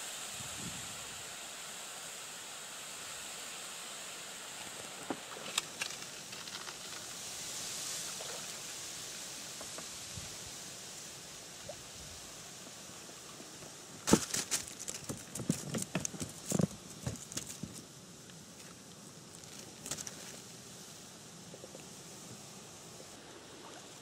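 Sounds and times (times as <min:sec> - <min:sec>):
light steady hiss: 0:00.0 - 0:24.0.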